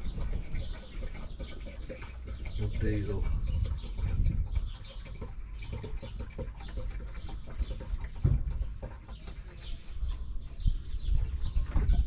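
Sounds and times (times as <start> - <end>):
fuel pouring into plastic tank: 0.0 - 11.8.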